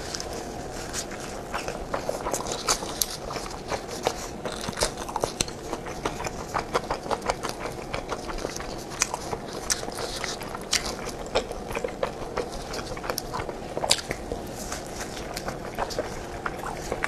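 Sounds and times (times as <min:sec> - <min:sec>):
close-up chewing: 0:00.0 - 0:17.0.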